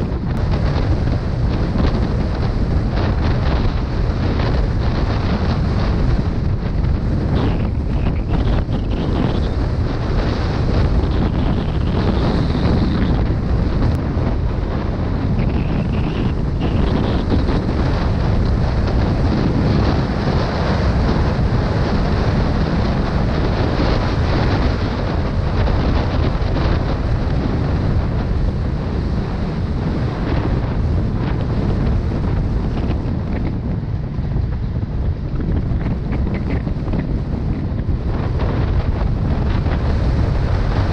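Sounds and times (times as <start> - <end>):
wind rush on microphone: 0.0 - 40.9.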